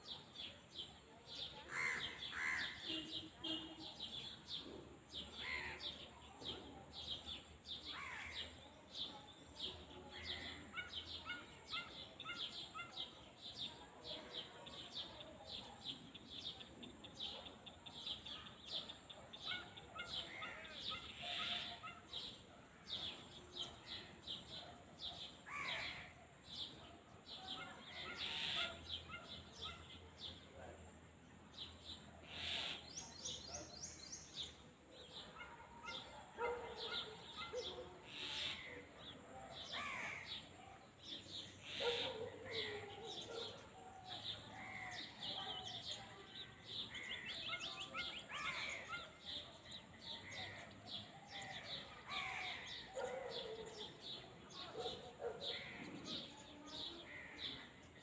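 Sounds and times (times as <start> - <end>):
small birds chirping and singing: 0.0 - 58.0.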